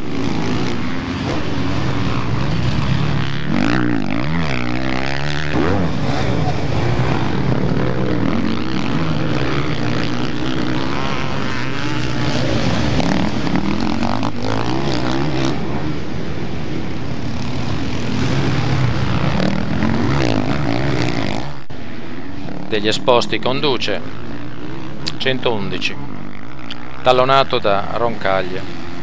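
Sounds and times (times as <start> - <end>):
motocross bikes racing: 0.0 - 29.0.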